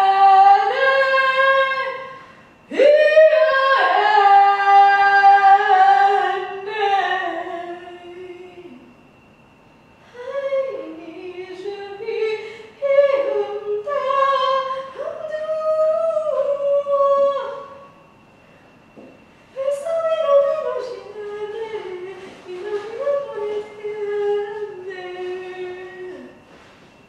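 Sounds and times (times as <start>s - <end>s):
woman singing a cappella: 0.0s - 8.9s, 10.0s - 17.9s, 19.5s - 26.7s.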